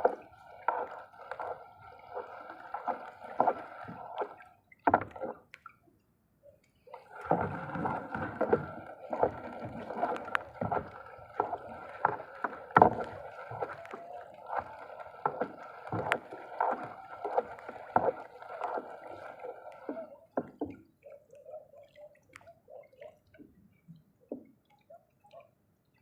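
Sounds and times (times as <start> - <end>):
water sloshing around boat: 0.0 - 25.6.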